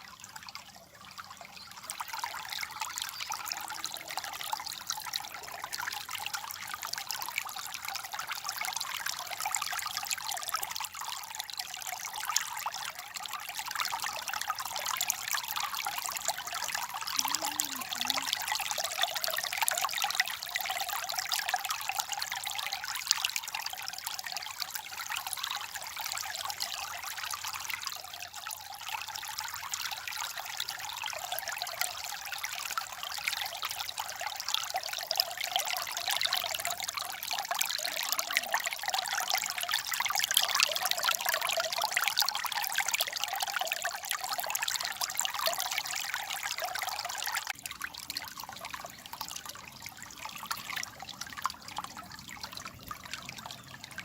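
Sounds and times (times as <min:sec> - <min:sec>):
water trickling and babbling: 0:00.0 - 0:54.0.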